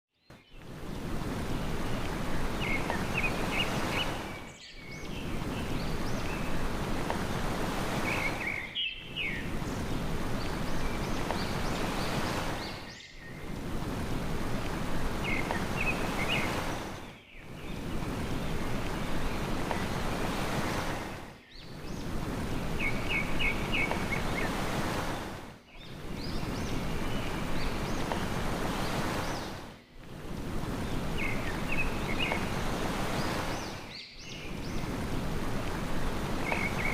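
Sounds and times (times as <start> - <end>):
ocean surf: 0.6 - 36.9.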